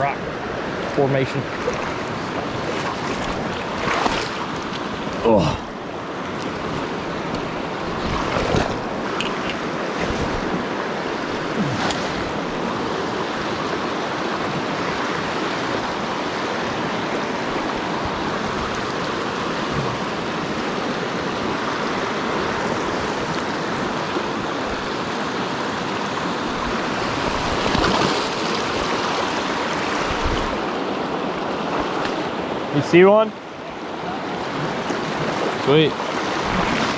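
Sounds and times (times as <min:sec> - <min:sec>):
river rushing over rocks: 0:00.0 - 0:36.9.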